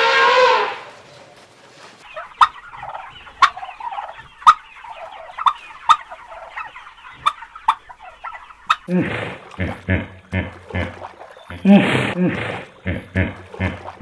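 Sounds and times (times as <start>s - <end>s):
sharp loud turkey calls: 2.0s - 14.0s
turkeys gobbling: 2.0s - 14.0s.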